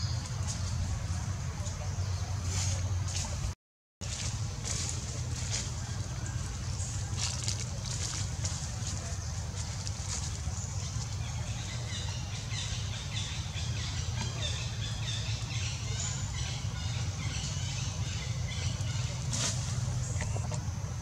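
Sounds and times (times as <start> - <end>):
steady low rumble: 0.0 - 21.0
small birds chirping: 4.1 - 21.0.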